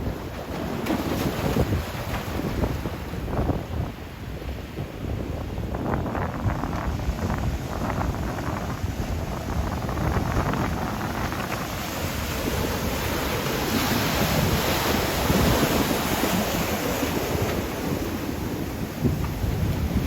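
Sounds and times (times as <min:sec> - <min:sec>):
ocean surf breaking on beach: 0:00.0 - 0:05.6, 0:06.8 - 0:20.0
wind rumbling on microphone: 0:00.0 - 0:20.0.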